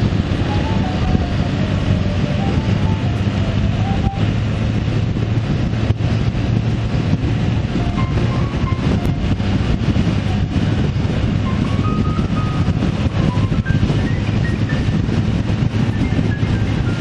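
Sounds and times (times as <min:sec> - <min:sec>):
road and wind noise: 0:00.0 - 0:17.0
vehicle engine hum: 0:00.0 - 0:17.0.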